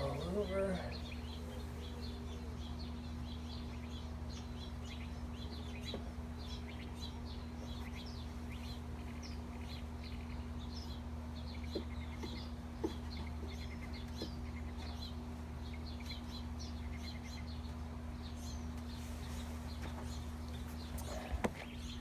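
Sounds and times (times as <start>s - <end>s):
honeybees buzzing: 0.0s - 22.0s
small birds chirping: 0.0s - 22.0s.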